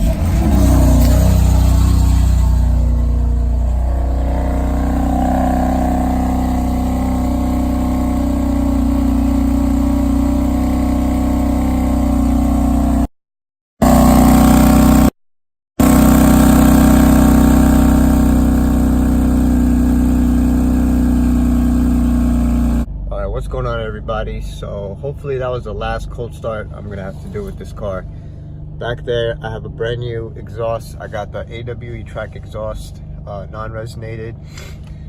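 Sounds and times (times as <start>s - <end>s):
car engine idling: 0.0s - 13.1s, 15.8s - 35.0s.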